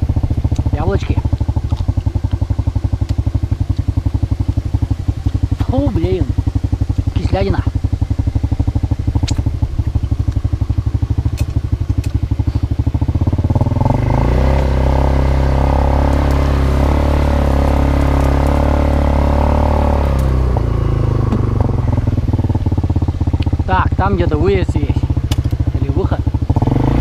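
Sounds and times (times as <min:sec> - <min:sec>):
quad bike engine running: 0:00.0 - 0:27.0.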